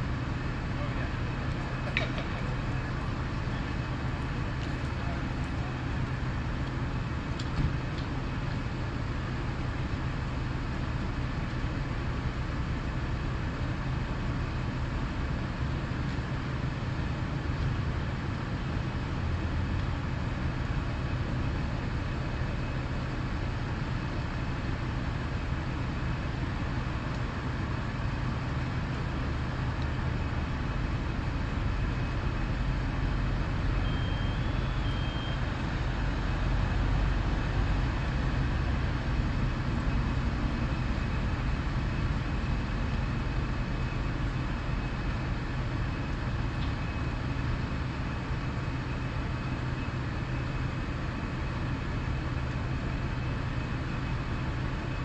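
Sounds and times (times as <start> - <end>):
fire engines rumbling: 0.0 - 55.0.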